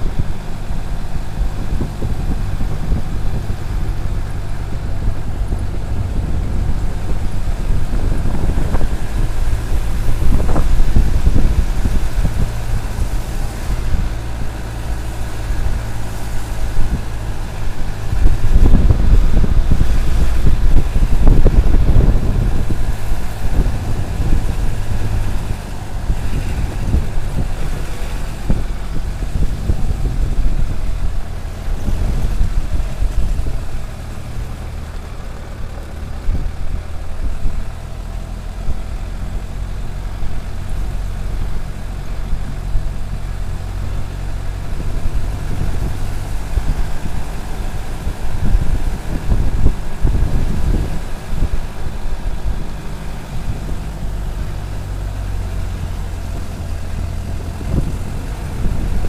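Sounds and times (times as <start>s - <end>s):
jeep engine running: 0.0s - 59.0s
road rumble and jolts: 0.0s - 59.0s.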